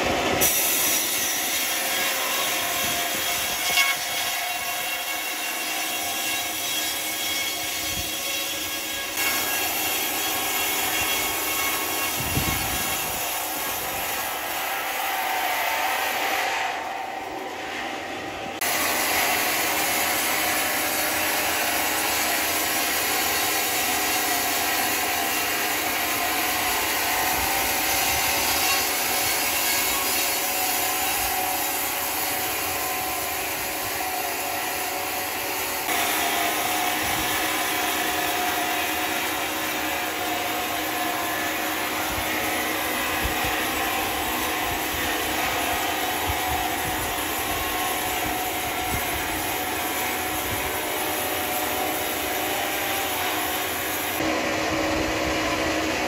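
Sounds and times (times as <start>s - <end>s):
saw cutting timber: 0.0s - 56.0s.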